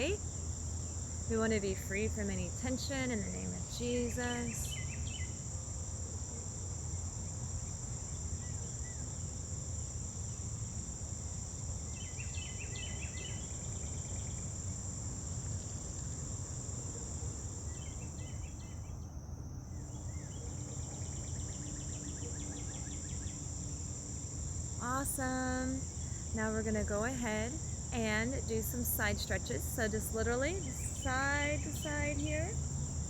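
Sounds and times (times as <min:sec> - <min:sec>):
crickets chirping: 0:00.0 - 0:33.0
insect chorus: 0:00.0 - 0:33.0.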